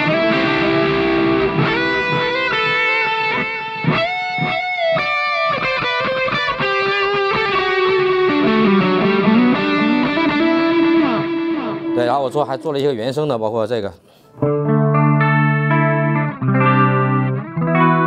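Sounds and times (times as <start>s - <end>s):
electric guitar lead line: 0.0s - 13.2s, 14.3s - 18.0s.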